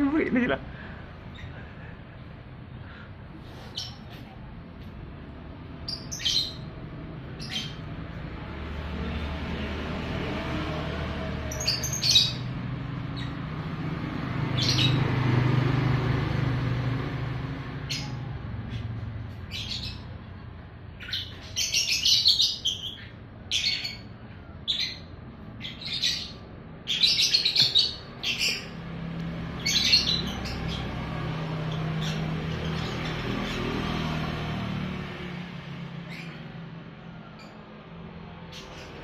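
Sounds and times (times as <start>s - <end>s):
birds chirping and squawking: 0.0s - 39.0s.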